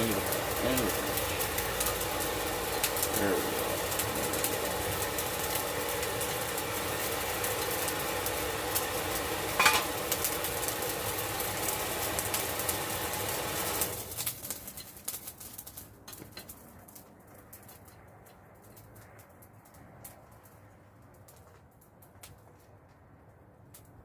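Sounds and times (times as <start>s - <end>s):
faint crackles: 0.0s - 24.0s.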